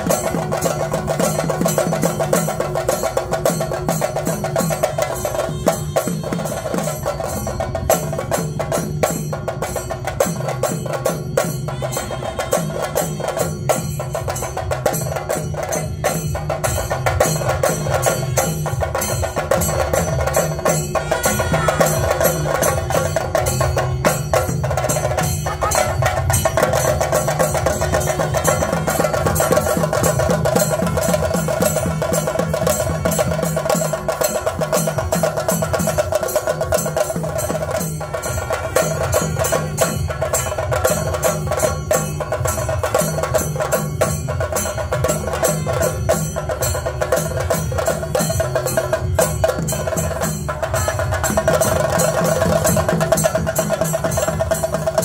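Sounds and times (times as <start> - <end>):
drums beaten fast with sticks: 0.0 - 55.0.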